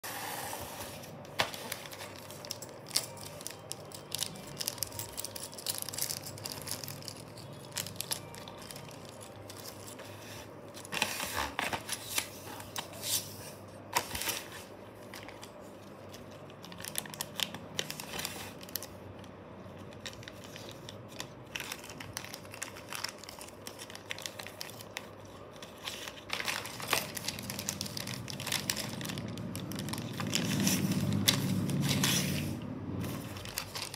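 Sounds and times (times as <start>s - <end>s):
plastic bags crinkling: 1.0s - 13.0s, 14.0s - 33.9s.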